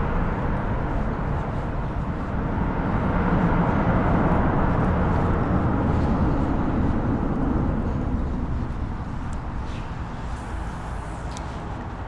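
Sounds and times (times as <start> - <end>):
road traffic rumbling overhead: 0.0 - 12.0.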